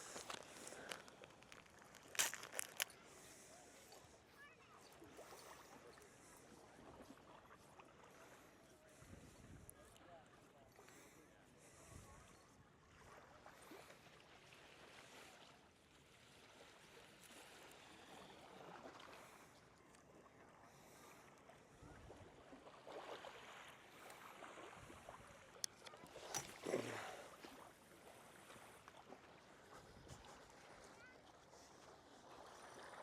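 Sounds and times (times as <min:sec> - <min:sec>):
faint shoreline wash: 0:00.0 - 0:33.0.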